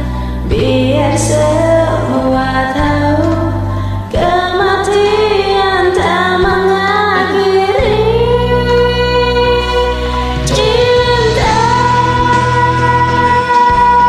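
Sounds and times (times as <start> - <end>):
karaoke backing track: 0.0 - 14.0
woman singing: 0.0 - 14.0.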